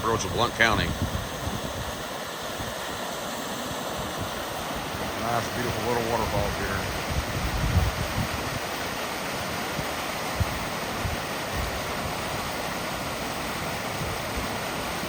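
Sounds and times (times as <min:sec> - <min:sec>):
waterfall pouring into pool: 0:00.1 - 0:07.3, 0:07.9 - 0:15.0.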